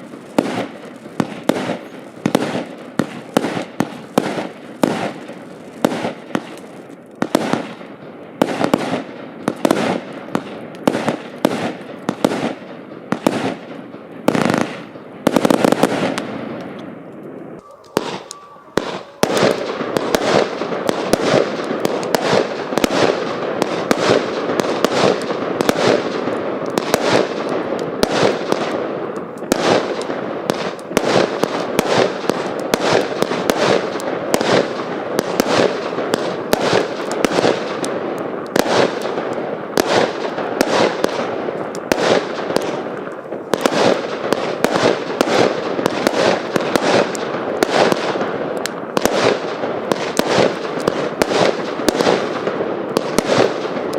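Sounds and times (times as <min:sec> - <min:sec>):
firework barrage bangs: 0:00.0 - 0:53.9.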